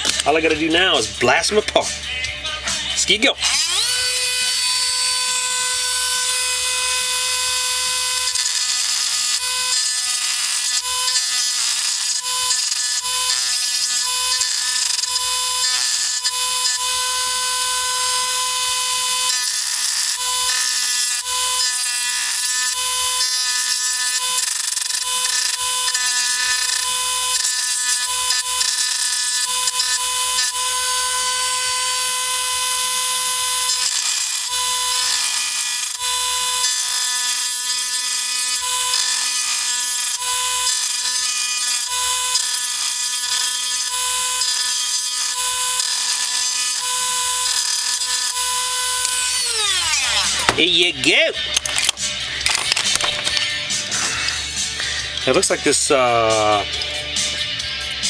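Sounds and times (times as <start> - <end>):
rotary tool whining while drilling: 2.8 - 58.0.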